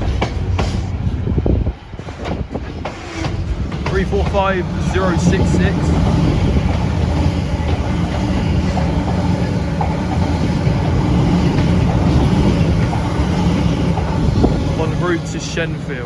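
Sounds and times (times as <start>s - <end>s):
electric train passing: 0.0s - 16.0s
freight train wagons rolling past: 0.0s - 16.0s.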